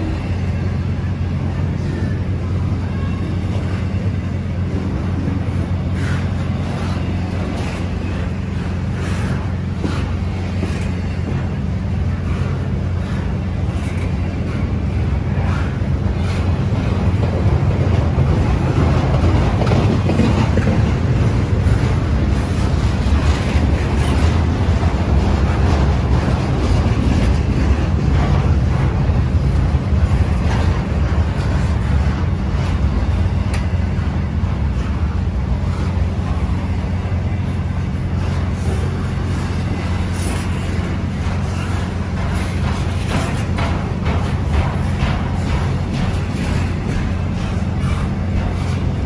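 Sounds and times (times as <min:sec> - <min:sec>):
freight train wheels rumbling on rails: 0:00.0 - 0:49.0.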